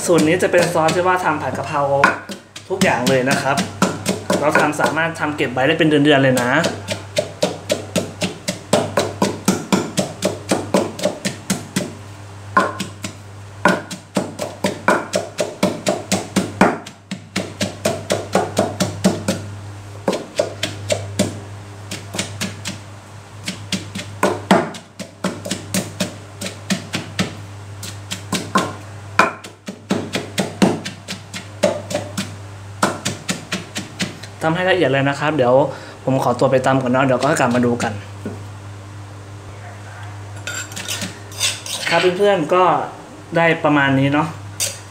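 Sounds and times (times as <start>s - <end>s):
pestle pounding in mortar: 0.0s - 12.0s, 12.6s - 22.8s, 23.4s - 34.2s, 36.8s - 38.4s, 40.5s - 41.9s
steady low hum: 0.0s - 44.9s.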